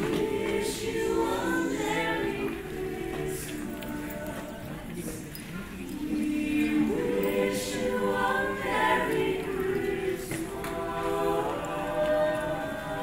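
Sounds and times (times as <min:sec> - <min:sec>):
a cappella ensemble singing: 0:00.0 - 0:13.0.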